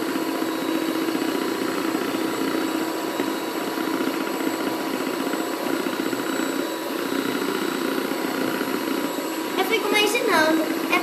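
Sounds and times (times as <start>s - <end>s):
electric mixer whipping: 0.0s - 11.0s.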